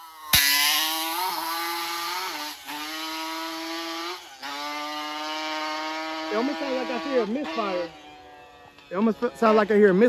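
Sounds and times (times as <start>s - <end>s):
atv engine revving high: 0.0s - 10.0s.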